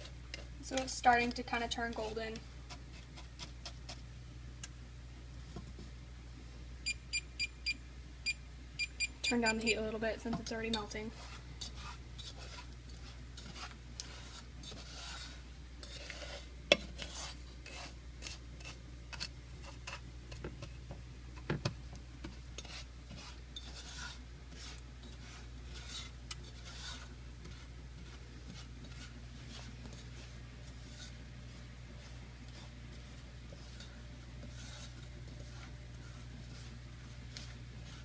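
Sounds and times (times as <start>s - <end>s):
utensil scraping sugar in a pan: 0.0s - 4.1s, 9.4s - 20.7s, 22.2s - 38.0s
steady low hum: 0.0s - 38.0s.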